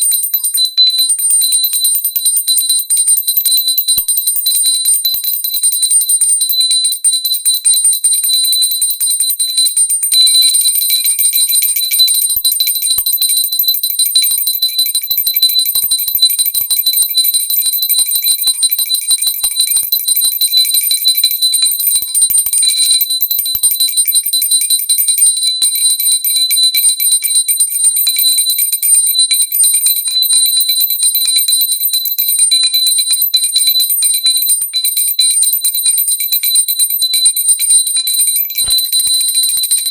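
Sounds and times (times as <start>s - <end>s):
hand bell ringing continuously: 0.0s - 39.9s.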